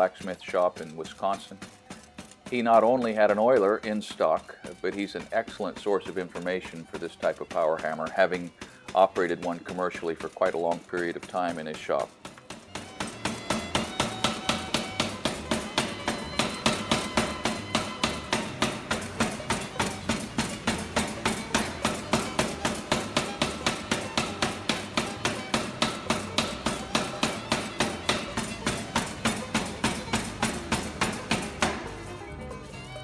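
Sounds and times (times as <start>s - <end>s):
power hammer striking: 0.0s - 32.2s.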